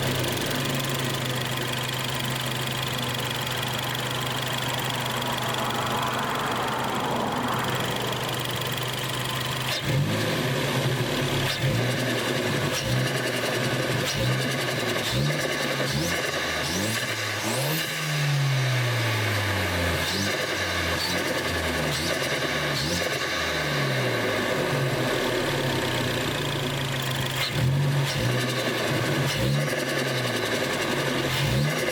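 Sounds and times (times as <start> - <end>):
turbocharged car engine revving: 0.0 - 31.9.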